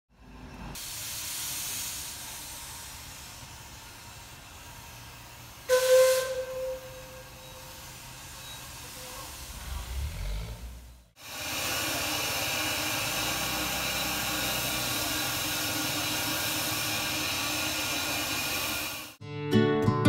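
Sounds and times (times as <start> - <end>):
steam hissing: 0.7 - 19.2.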